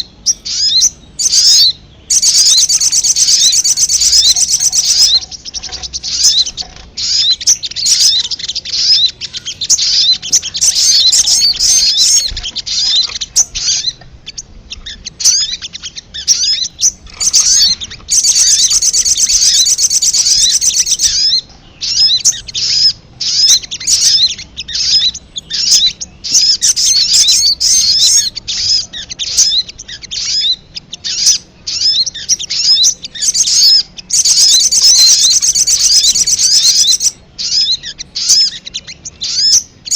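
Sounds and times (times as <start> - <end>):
high-pitched bird chirping: 0.0 - 39.9.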